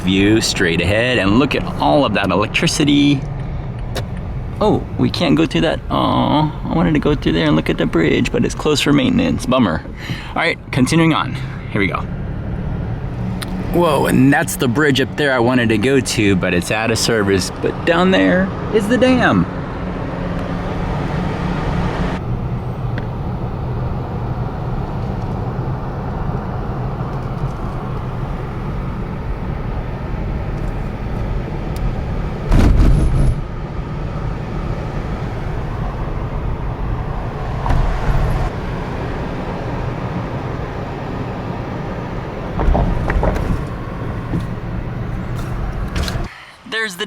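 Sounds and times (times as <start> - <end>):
car road and engine noise: 0.0 - 46.7.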